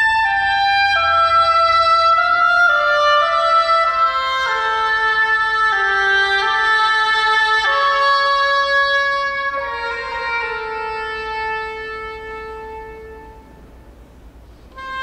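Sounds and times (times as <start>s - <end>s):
oboe playing slow phrase: 0.0s - 13.8s, 14.7s - 15.0s.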